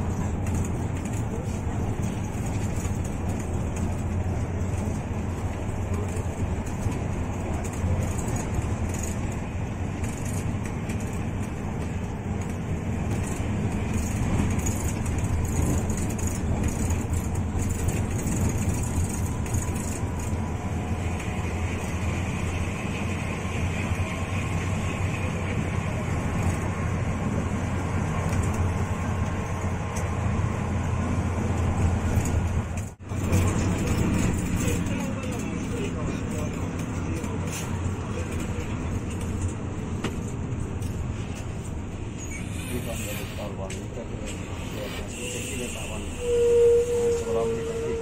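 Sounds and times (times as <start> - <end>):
bus diesel engine drone: 0.0 - 48.0
road noise: 0.0 - 48.0.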